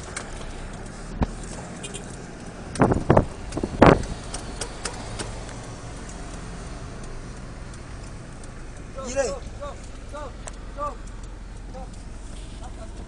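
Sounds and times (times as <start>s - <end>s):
car interior rumble: 0.0s - 13.0s
faint clicks: 0.0s - 13.0s.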